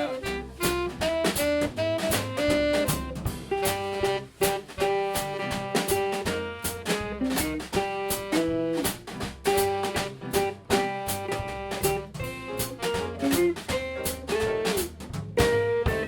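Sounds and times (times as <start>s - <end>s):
bending lead melody: 0.0s - 16.0s
drum kit keeping time: 0.0s - 16.0s
jazz band playing: 0.0s - 16.0s.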